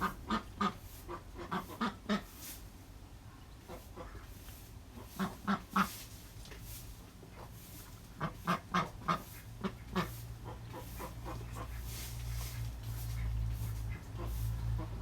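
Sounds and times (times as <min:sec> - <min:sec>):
ducks quacking: 0:00.0 - 0:02.4, 0:03.6 - 0:06.1, 0:07.2 - 0:15.0.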